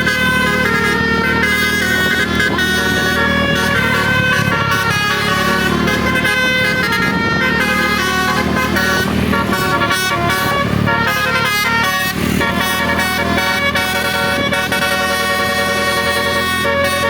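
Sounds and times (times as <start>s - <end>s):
bus engine running: 0.0s - 17.0s
multi-tone air horn tune: 0.0s - 17.0s.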